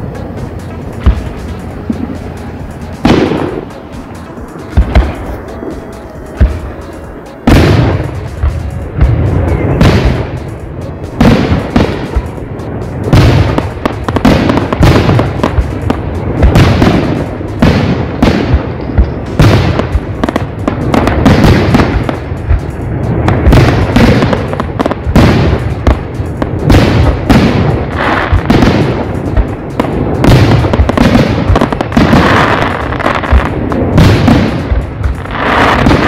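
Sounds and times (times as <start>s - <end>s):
firework shells bursting: 0.0s - 36.0s.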